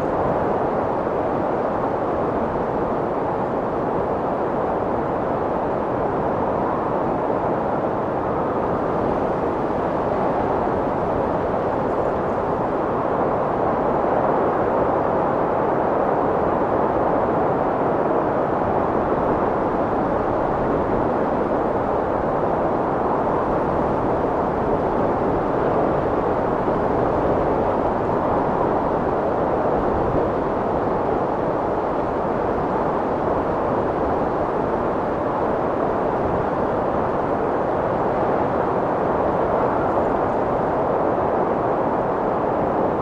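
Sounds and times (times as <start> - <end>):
strong wind blowing: 0.0 - 43.0.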